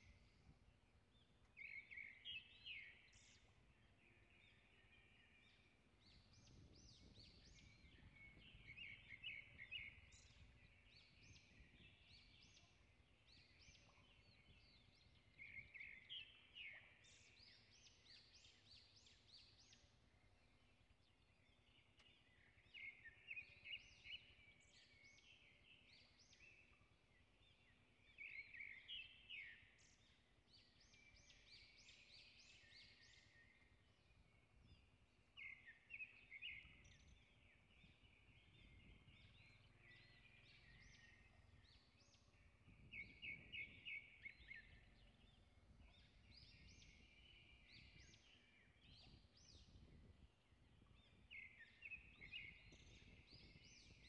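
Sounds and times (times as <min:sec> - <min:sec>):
birds chirping and trilling: 0:01.1 - 0:54.0.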